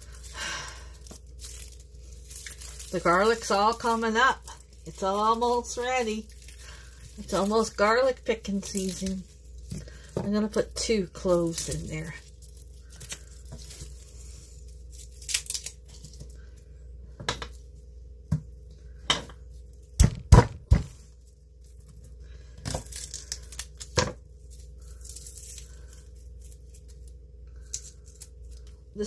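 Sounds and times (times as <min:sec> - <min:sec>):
garlic skins crinkling and tearing: 0:00.0 - 0:16.7, 0:19.4 - 0:29.0.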